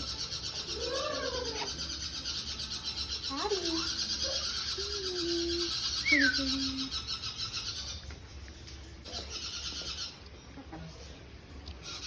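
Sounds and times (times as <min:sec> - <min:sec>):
caged birds chattering and chirping: 0:00.0 - 0:12.0.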